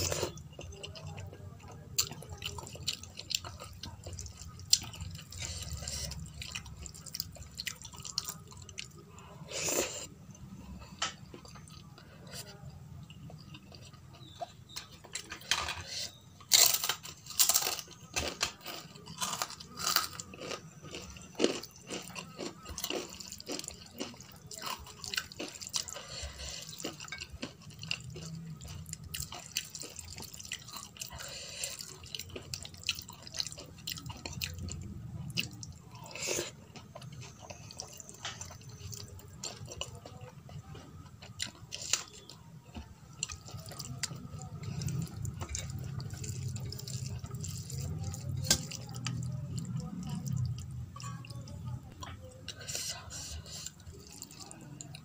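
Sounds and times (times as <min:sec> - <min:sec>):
chewing: 0:00.0 - 0:55.0.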